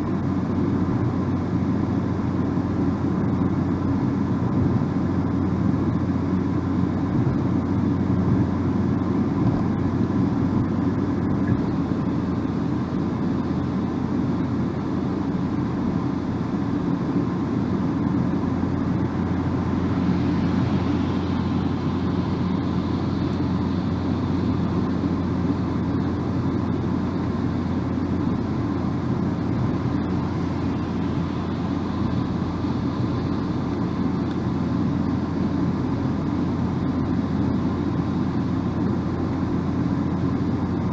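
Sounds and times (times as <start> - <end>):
low engine hum: 0.0 - 40.9
road and tyre noise: 0.0 - 40.9.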